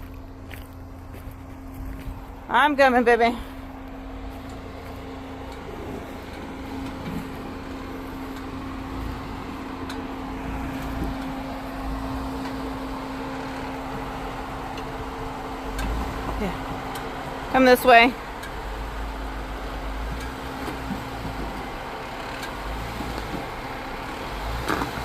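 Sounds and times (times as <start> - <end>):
vehicle engine running at low revs: 0.0 - 25.0.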